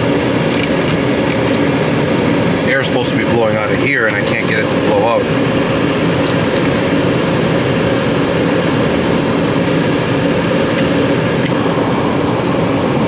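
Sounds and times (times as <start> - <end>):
blower fan rushing air: 0.0 - 13.0
low fan hum: 0.0 - 13.0.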